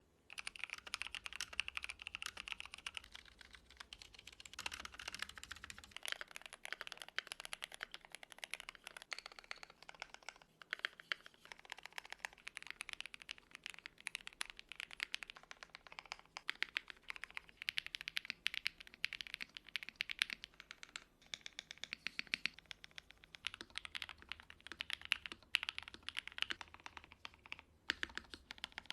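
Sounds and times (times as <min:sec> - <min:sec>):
typing on computer keyboard: 0:00.3 - 0:28.9.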